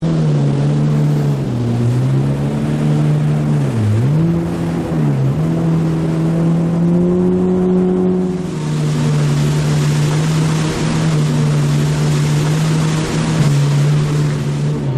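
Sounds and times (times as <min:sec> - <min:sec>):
water and wind rush: 0:00.0 - 0:14.9
watercraft engine running at speed: 0:00.0 - 0:14.9.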